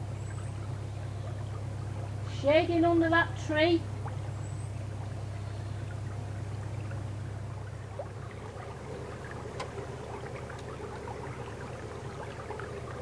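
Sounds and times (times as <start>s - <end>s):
boat engine droning: 0.0s - 13.0s
water washing along hull: 0.0s - 13.0s.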